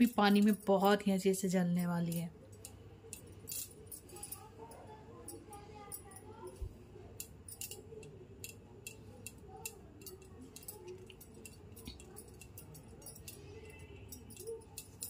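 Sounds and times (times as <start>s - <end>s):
bangles clinking: 0.0s - 15.0s.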